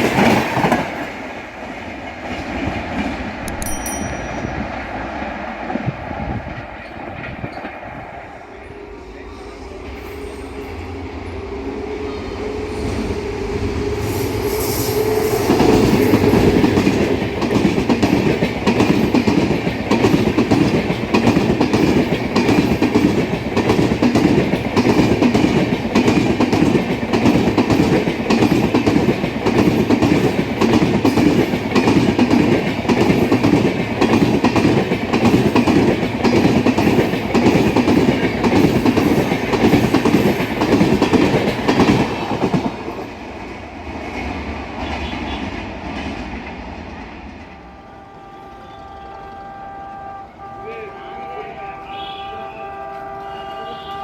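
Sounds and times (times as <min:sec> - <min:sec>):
electric locomotive passing: 0:00.0 - 0:54.0.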